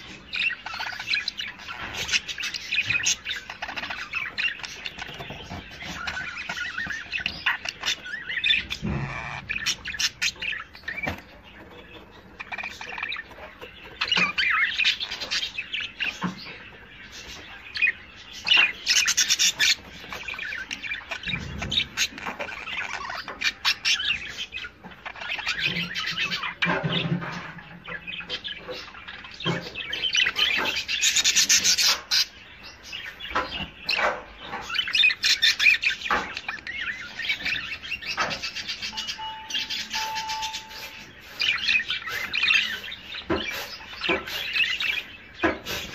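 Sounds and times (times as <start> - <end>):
budgerigars chirping: 0.0 - 45.9.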